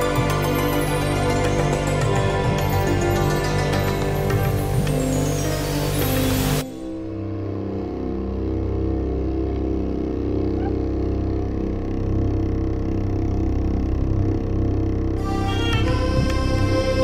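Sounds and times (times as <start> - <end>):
low sustained drone: 0.0 - 17.0.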